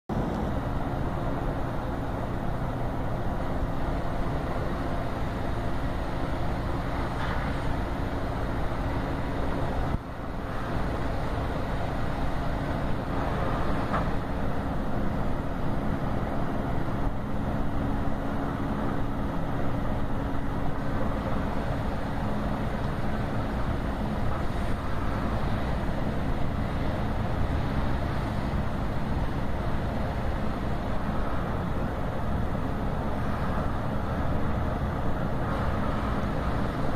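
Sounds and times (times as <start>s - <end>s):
ferry engines rumbling: 0.1s - 36.9s
water and harbour noise: 0.1s - 36.9s.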